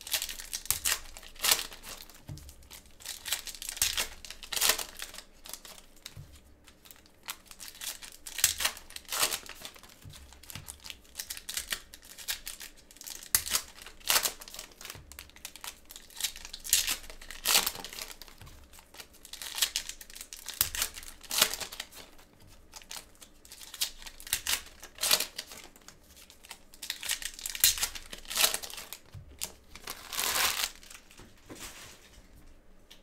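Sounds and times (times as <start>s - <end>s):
foil wrappers tearing and crinkling: 0.0s - 32.1s.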